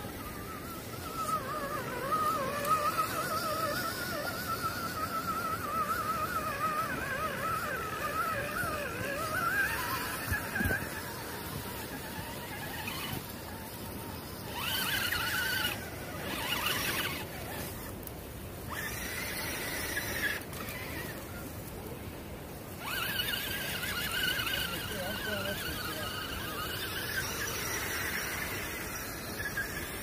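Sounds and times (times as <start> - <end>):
electric motor and gear whine: 0.0 - 30.0.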